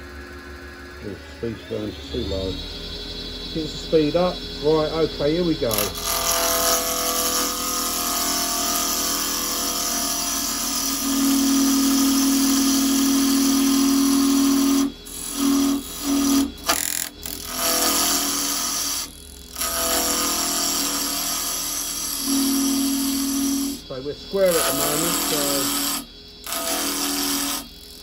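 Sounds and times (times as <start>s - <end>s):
chisel cutting wood on a lathe: 1.4s - 28.0s.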